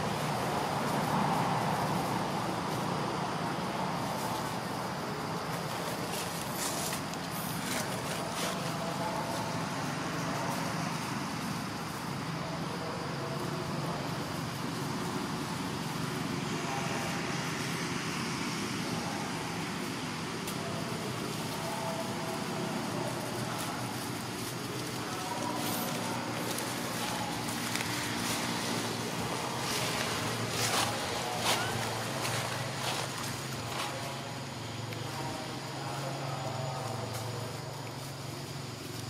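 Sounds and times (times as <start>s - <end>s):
outdoor background noise: 0.0s - 39.0s.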